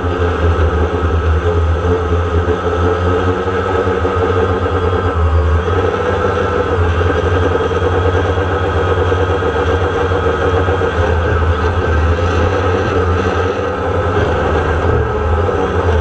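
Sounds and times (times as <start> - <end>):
drone motors buzzing: 0.0 - 16.0.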